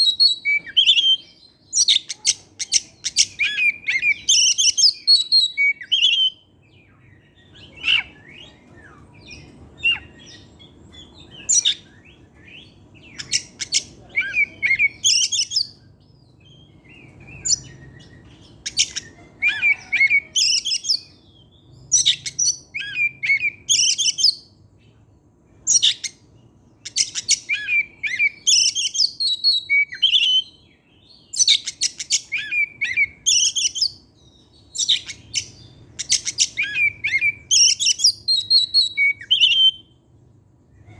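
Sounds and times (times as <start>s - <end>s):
songbird singing varied phrases: 0.0s - 40.1s.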